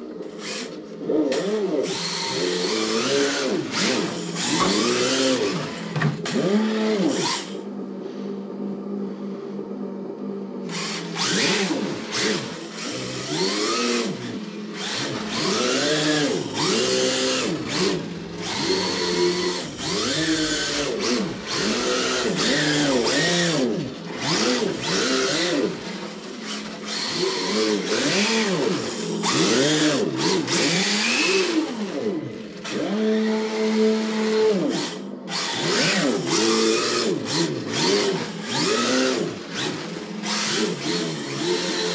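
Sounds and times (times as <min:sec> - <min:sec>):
simulated engine revving from speaker: 0:01.0 - 0:07.7, 0:10.7 - 0:25.9, 0:26.8 - 0:41.9.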